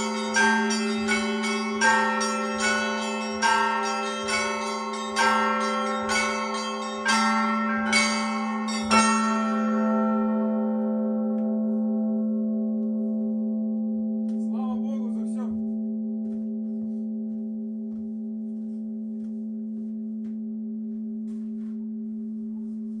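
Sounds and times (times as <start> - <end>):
church bell hum ringing out: 0.0 - 23.0.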